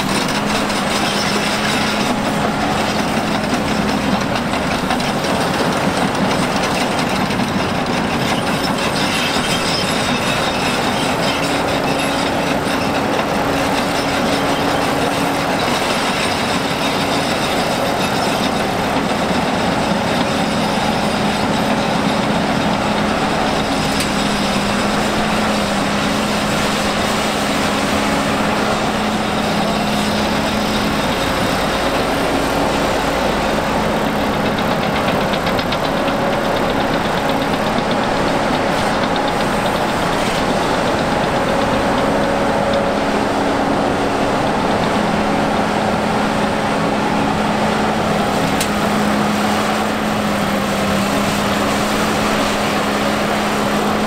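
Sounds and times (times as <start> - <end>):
diesel engines under load: 0.0 - 54.0.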